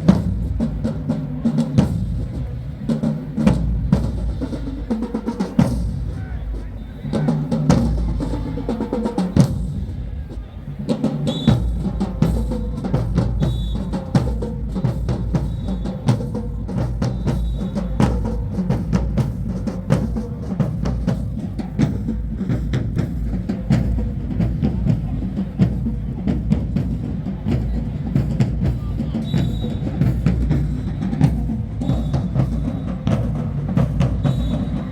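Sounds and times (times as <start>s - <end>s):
marching drumline cadence: 0.0s - 34.9s.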